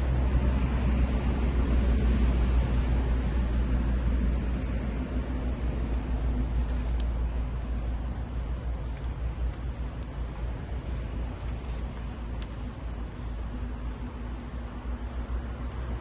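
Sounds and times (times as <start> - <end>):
burning wood crackling: 0.0 - 16.0
roaring flames: 0.0 - 16.0.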